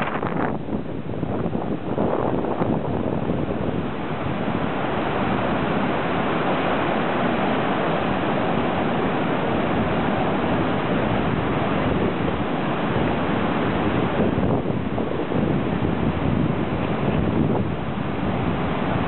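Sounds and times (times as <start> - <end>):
heavy surf breaking: 0.0 - 19.0
wind buffeting microphone: 0.0 - 19.0.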